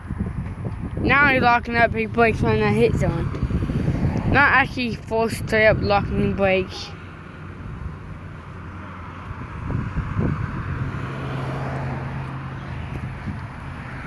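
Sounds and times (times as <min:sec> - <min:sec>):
road and tyre noise: 0:00.0 - 0:14.0
vehicle engine droning: 0:00.0 - 0:14.0.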